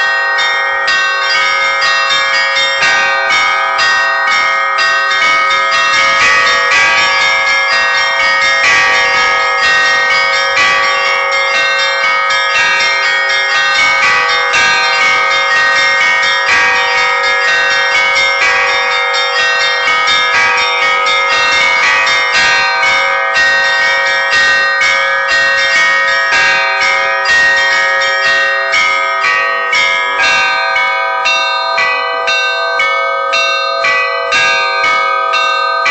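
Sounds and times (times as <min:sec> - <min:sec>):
church bells pealing: 0:00.0 - 0:35.9.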